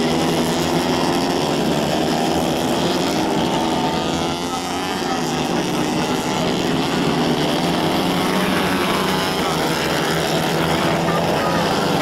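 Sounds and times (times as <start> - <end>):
kart engines racing by: 0.0 - 12.0.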